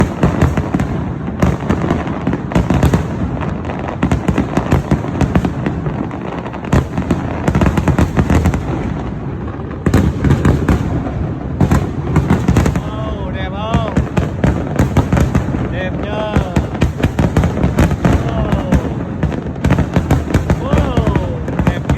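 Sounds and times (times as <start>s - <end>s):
fireworks bursting and crackling: 0.0s - 21.9s.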